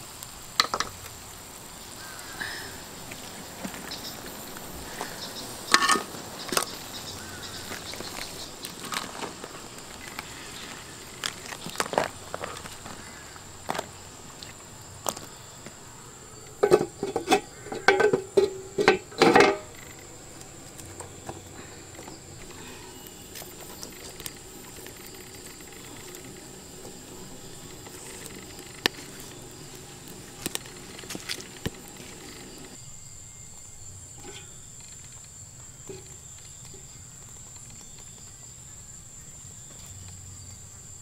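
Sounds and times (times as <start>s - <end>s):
insects droning high-pitched: 0.0s - 41.0s.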